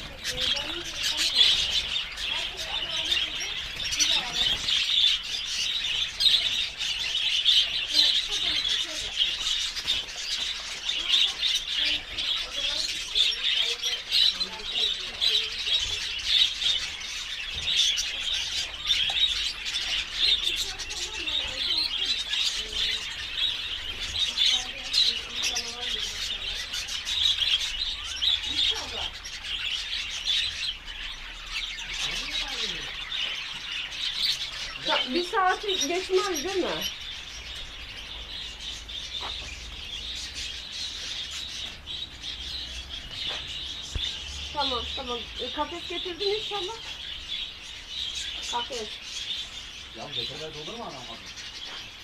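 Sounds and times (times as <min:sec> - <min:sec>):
lovebirds chirping: 0:00.0 - 0:52.0.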